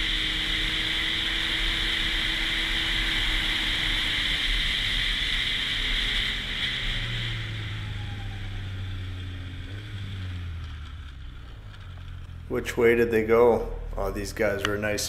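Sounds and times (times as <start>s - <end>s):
snowmobile engine hum: 0.0s - 15.0s.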